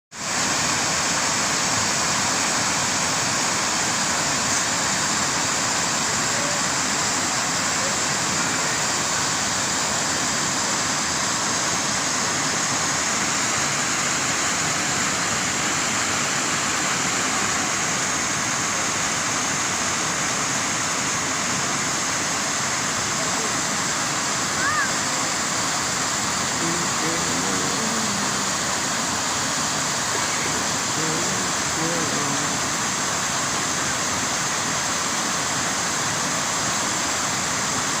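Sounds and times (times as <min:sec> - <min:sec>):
flowing water rushing: 0:00.1 - 0:38.0.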